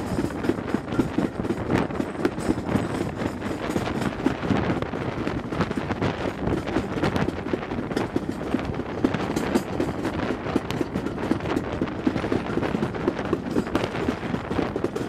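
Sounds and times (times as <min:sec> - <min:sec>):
steam train clattering: 0:00.0 - 0:15.0.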